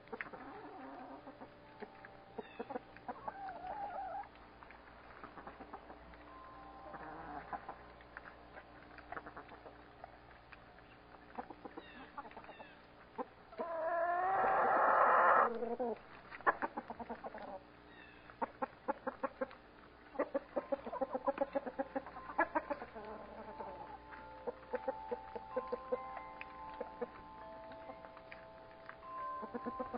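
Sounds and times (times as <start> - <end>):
hens clucking: 0.0 - 17.7, 18.3 - 29.9.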